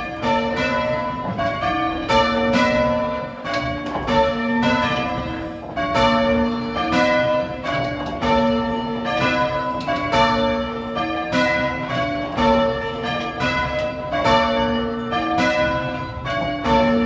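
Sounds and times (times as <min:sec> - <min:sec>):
church bells change ringing: 0:00.0 - 0:17.0.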